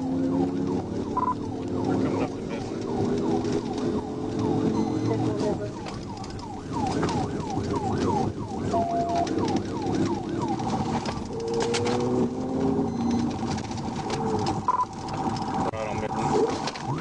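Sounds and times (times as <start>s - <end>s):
police siren yelping: 0.0s - 13.6s, 14.2s - 17.0s
car road noise: 0.0s - 17.0s.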